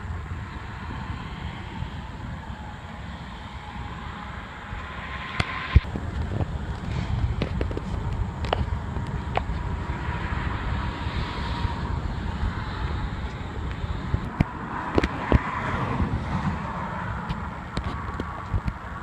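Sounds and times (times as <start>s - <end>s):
faint steady tone: 0.0s - 19.0s
wind buffeting microphone: 0.0s - 19.0s.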